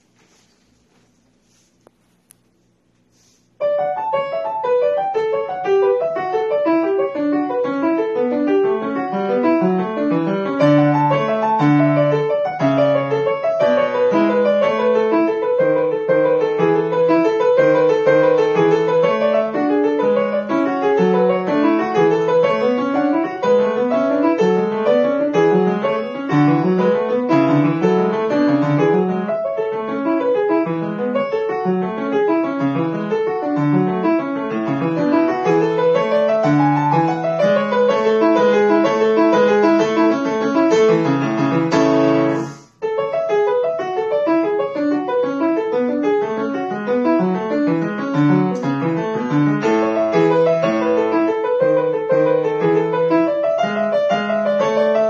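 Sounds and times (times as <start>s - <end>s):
grand piano playing fast runs: 3.6s - 55.0s.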